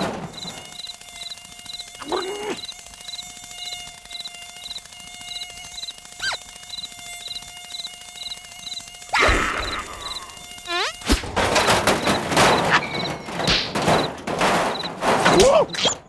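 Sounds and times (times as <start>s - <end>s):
mosquito buzz: 0.0s - 15.0s
high cricket-like chirps: 0.3s - 15.0s.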